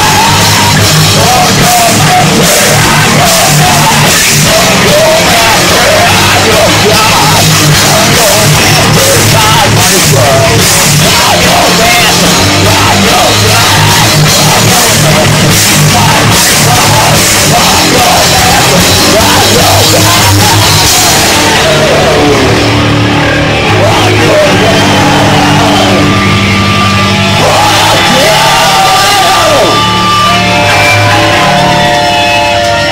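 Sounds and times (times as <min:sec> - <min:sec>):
electric guitars and bass: 0:00.0 - 0:32.9
singer yelling: 0:00.0 - 0:32.9.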